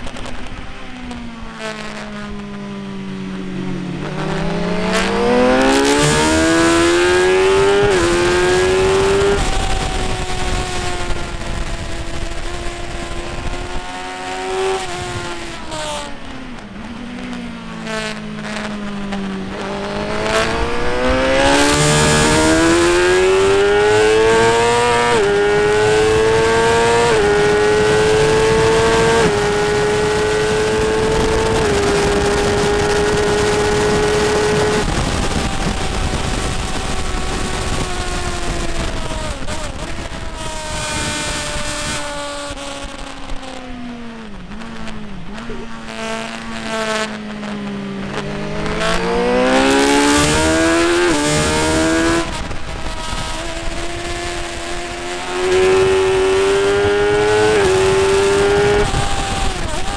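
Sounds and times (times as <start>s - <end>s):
constant rushing noise: 0.0s - 59.9s
motorcycle engine at high revs: 0.0s - 59.9s.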